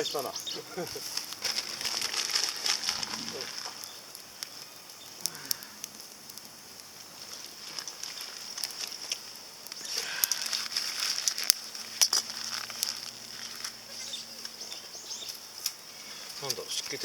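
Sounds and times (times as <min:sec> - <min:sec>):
fire popping and snapping: 0:00.0 - 0:17.0
wood fire crackling: 0:00.0 - 0:17.0.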